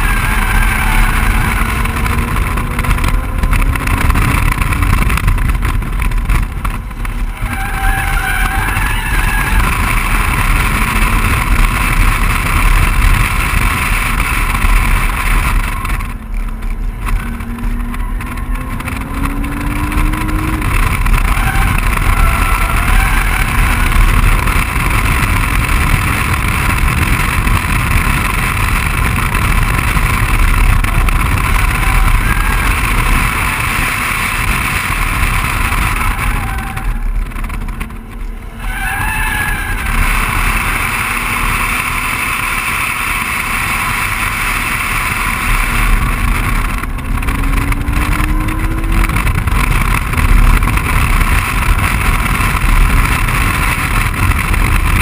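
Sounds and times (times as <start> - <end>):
car engine running hard: 0.0 - 55.0
wind rushing over microphone: 0.0 - 55.0.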